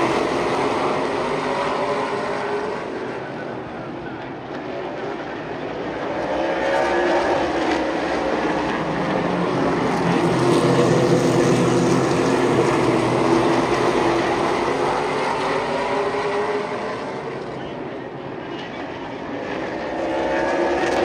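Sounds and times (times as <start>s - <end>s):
race car engines at speed: 0.0s - 21.0s.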